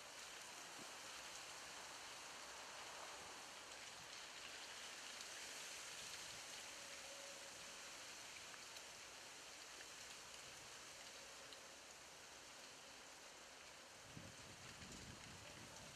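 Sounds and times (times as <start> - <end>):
outdoor background hiss: 0.0 - 15.9.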